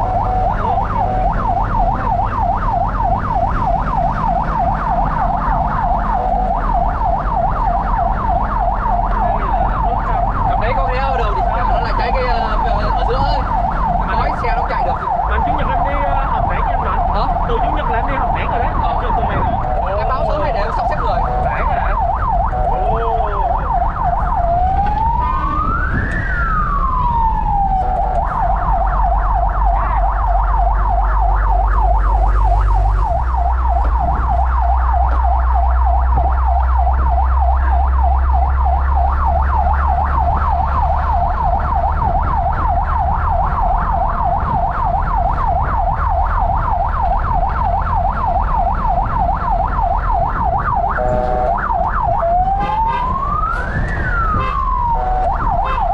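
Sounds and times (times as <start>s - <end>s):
fire truck siren wailing and yelping: 0.0s - 55.9s
truck engine rumbling: 0.0s - 55.9s.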